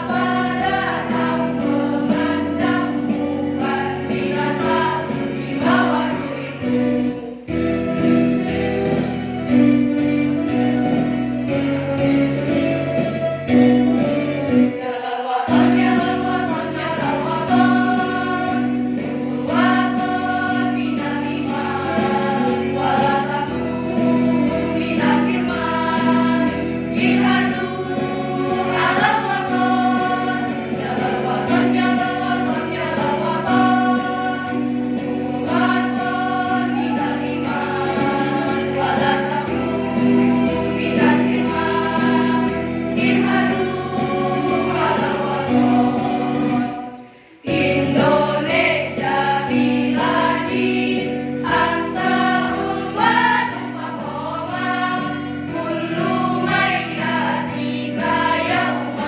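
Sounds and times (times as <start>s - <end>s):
girls' choir singing: 0.0s - 9.2s, 13.8s - 59.0s
music accompaniment: 0.0s - 59.0s.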